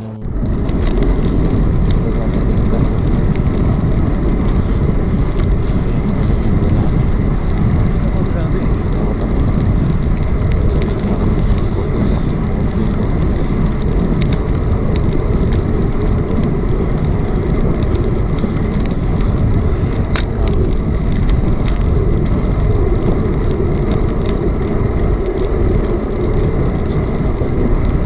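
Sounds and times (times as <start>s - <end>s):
tyre and road noise: 0.0s - 28.0s
wind rushing over microphone: 0.0s - 28.0s
faint clicks: 0.4s - 28.0s.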